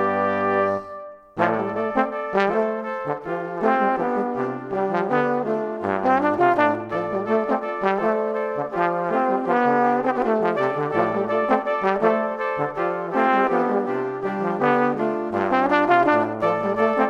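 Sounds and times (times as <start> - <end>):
brass-like instrumental music: 0.0 - 17.0.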